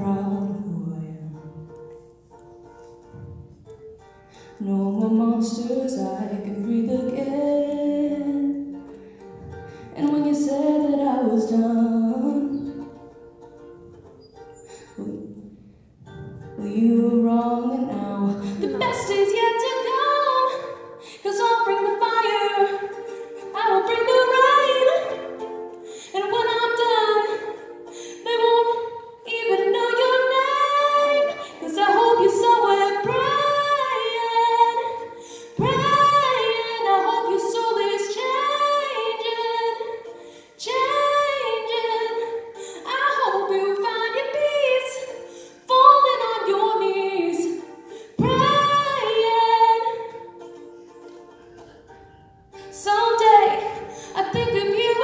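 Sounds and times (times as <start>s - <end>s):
woman singing: 0.0s - 1.7s, 4.5s - 8.9s, 9.8s - 13.1s, 14.9s - 15.6s, 16.5s - 50.4s, 52.7s - 55.0s
ukulele: 0.0s - 55.0s.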